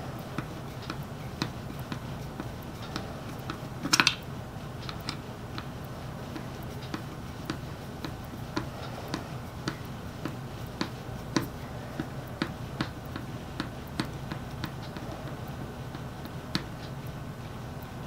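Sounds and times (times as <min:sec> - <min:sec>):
steady low hum: 0:00.0 - 0:18.0
light sharp clicks and taps: 0:00.2 - 0:18.0.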